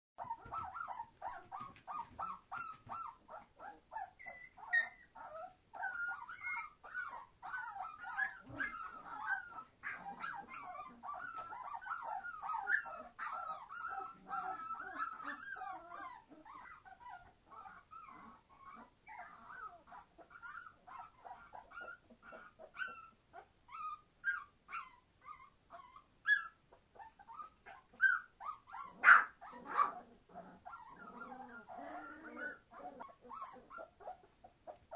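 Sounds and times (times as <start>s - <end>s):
puppies crying: 0.2s - 34.9s.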